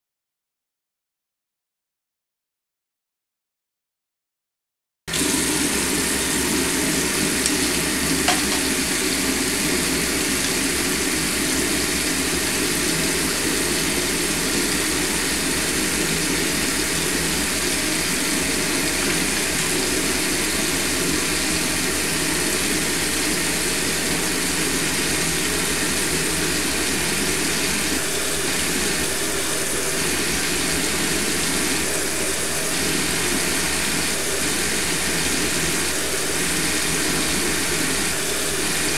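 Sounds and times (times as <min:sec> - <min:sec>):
water running from tap: 0:05.1 - 0:38.9.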